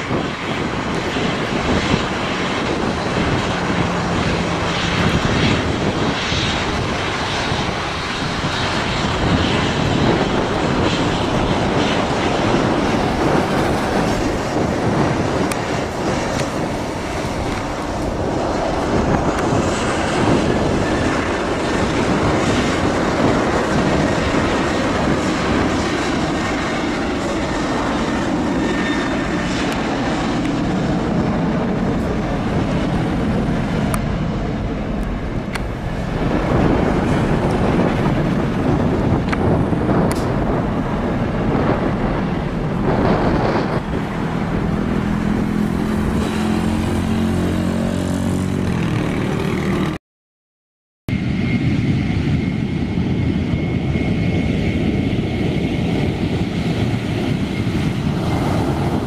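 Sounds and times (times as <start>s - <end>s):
jet airliner engines running: 0.0s - 50.0s, 51.1s - 59.0s
jet engines high whine: 0.0s - 50.0s, 51.1s - 59.0s
wind buffeting microphone: 0.0s - 50.0s, 51.1s - 59.0s.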